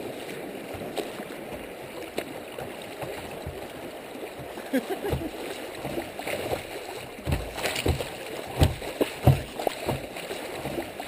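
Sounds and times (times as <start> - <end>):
water rushing against kayak hull: 0.0 - 11.0
water slaps and splashes: 0.0 - 11.0.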